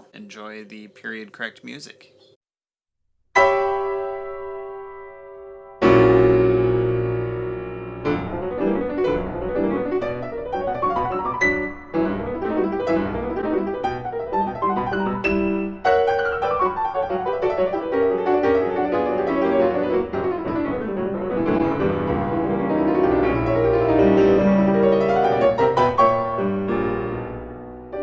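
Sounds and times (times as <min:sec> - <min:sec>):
solo piano music: 0:03.4 - 0:28.0.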